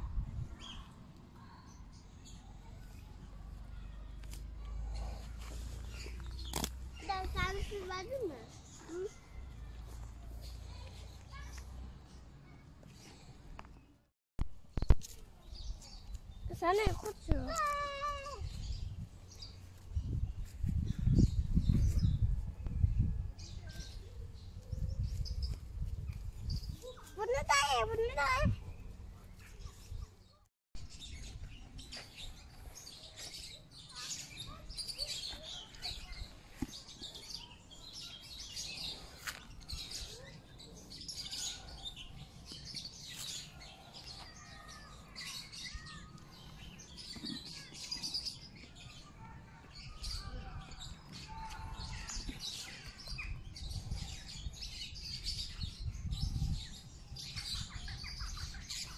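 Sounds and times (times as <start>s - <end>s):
small birds chirping: 0.1s - 58.9s.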